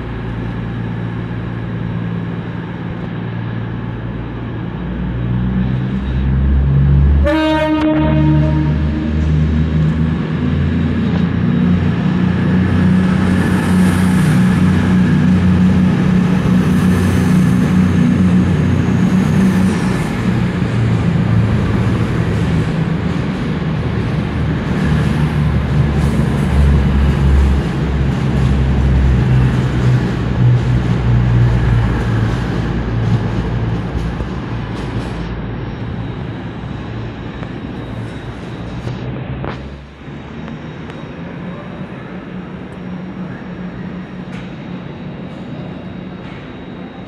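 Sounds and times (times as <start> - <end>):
diesel train engines humming: 0.0 - 47.0.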